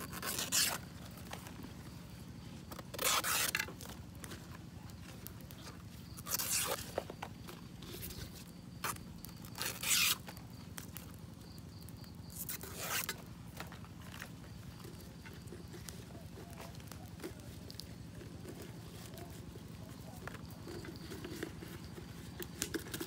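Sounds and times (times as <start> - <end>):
leaves rustling and crinkling: 0.0 - 23.0.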